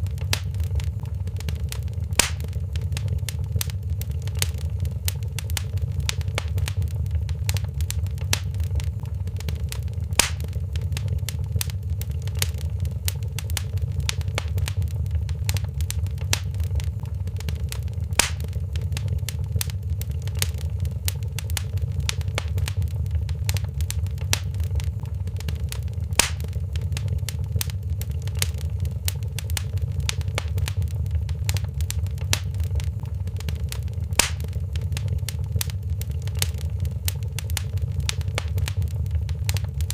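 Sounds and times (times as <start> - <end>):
loud fire snap: 0.0 - 39.9
wood fire crackling: 0.0 - 39.9.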